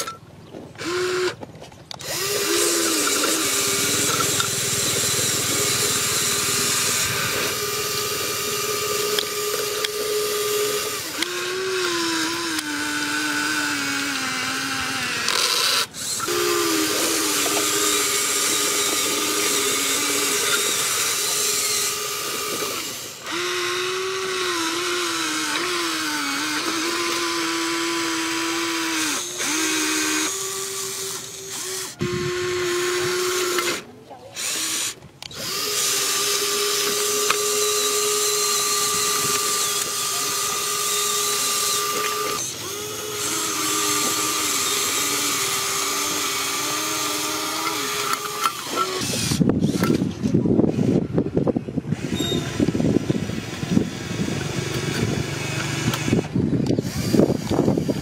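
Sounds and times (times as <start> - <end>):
toy excavator electric motors whining: 0.0 - 58.0.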